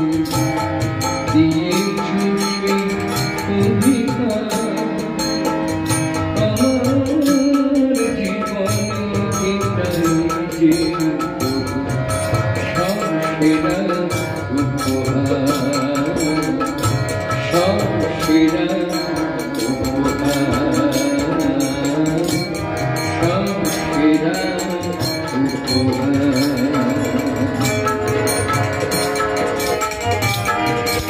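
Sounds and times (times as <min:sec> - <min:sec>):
harmonium: 0:00.0 - 0:31.0
man singing devotional song: 0:00.0 - 0:31.0
steady drum beat: 0:00.0 - 0:31.0.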